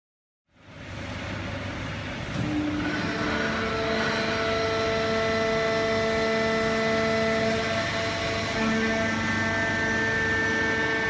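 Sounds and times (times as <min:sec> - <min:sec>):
hydraulic baler machine hum: 0:00.6 - 0:11.0
machine whine: 0:01.2 - 0:11.0.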